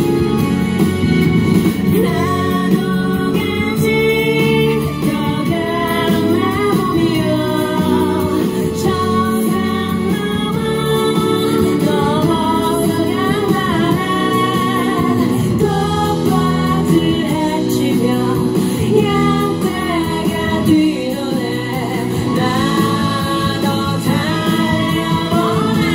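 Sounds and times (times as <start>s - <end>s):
instrumental accompaniment: 0.0s - 25.9s
woman singing into microphone: 1.8s - 25.9s.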